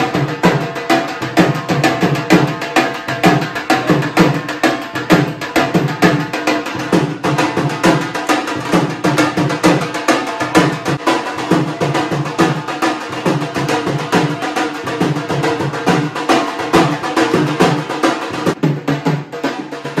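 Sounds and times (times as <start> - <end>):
drum beaten in fast rhythm: 0.0 - 20.0
music: 0.0 - 20.0.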